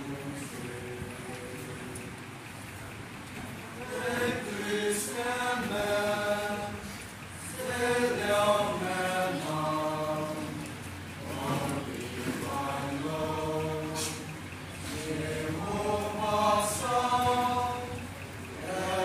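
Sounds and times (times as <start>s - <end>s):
group singing without instruments: 0.0s - 2.2s, 3.7s - 19.0s.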